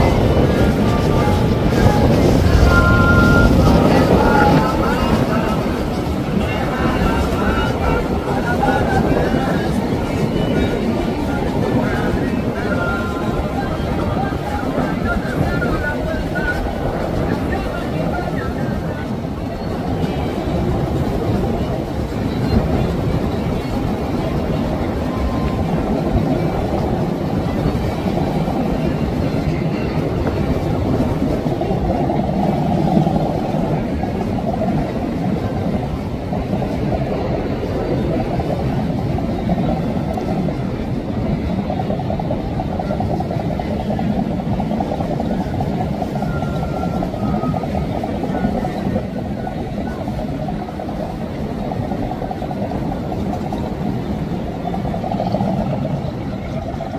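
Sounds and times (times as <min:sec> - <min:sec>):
churning wake water: 0:00.0 - 0:56.9
motorboat engines rumbling: 0:00.0 - 0:56.9.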